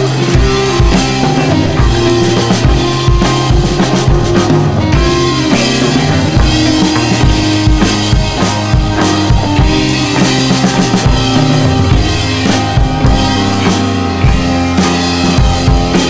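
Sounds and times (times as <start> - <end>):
background music with drums: 0.0 - 16.0
steady kick drum beat: 0.0 - 16.0.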